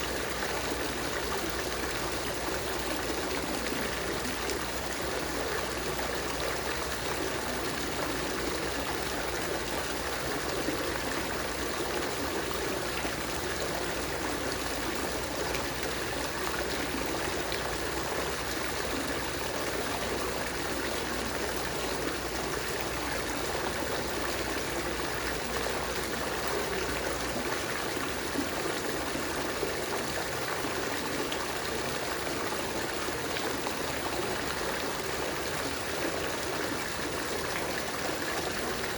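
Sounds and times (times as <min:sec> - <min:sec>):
water fountain splashing: 0:00.0 - 0:38.9.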